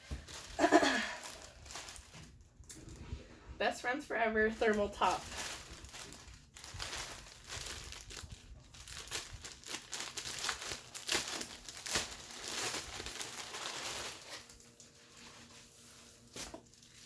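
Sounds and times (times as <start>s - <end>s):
packaging crinkling and rustling: 0.0s - 3.5s, 4.4s - 17.0s.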